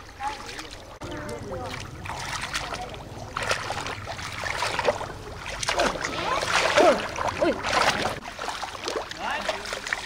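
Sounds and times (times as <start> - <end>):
muddy water sloshing and splashing: 0.0 - 10.0.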